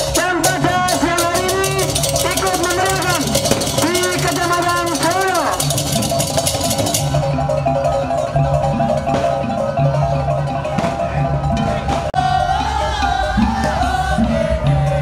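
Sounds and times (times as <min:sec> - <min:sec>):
drum strokes: 0:00.0 - 0:15.0
held wavering melody: 0:00.0 - 0:15.0
metallophone pattern: 0:00.0 - 0:15.0.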